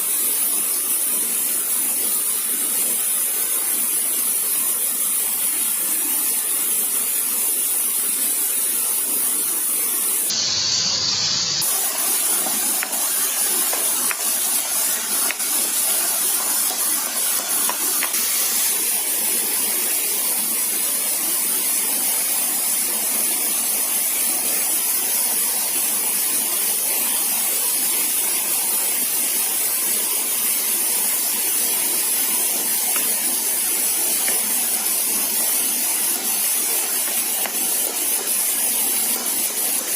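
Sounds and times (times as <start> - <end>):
even forest hiss: 0.0 - 39.9.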